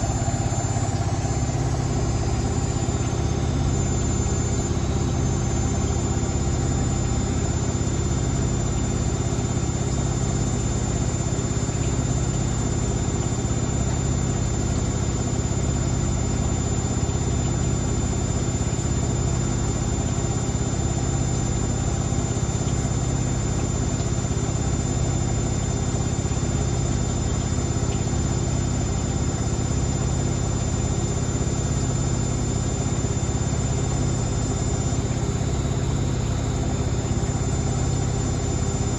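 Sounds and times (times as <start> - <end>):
steady high whine: 0.0 - 38.9
washing machine spinning: 0.0 - 38.9.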